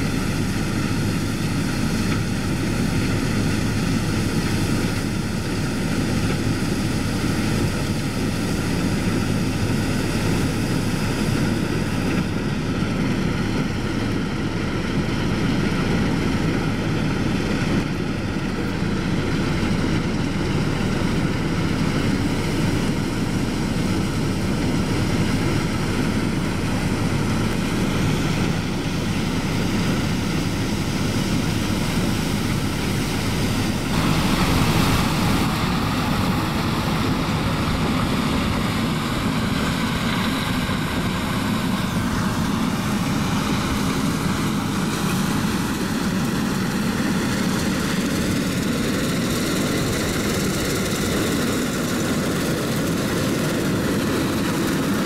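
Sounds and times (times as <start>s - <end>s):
combine harvester engine and threshing drone: 0.0s - 55.0s.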